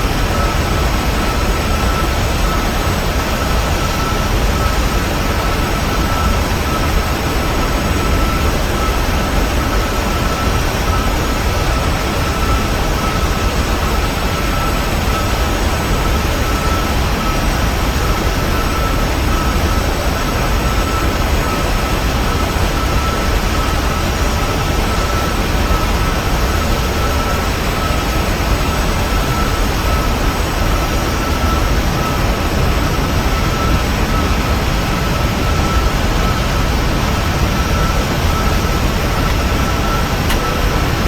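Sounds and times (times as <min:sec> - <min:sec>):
jet engines droning: 0:00.0 - 0:41.0
thin steady whine: 0:00.0 - 0:41.0.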